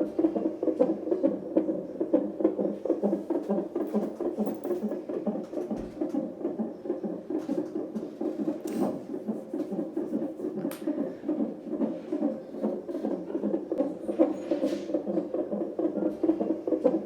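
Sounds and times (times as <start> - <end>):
fetal heartbeat whooshing pulse: 0.0 - 17.0.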